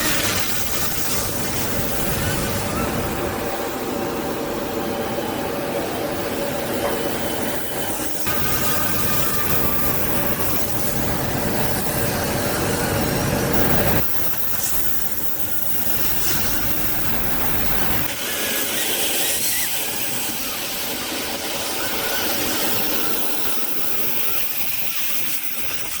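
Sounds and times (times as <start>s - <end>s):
toy helicopter rotors whirring: 0.0s - 26.0s.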